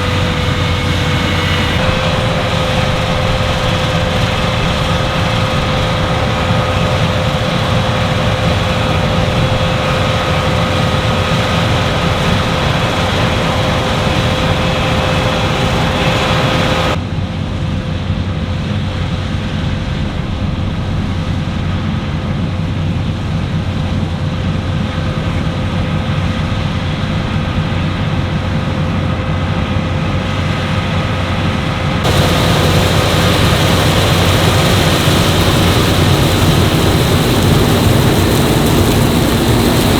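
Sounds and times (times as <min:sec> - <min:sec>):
combine harvester droning: 0:00.0 - 0:17.0, 0:24.2 - 0:39.9.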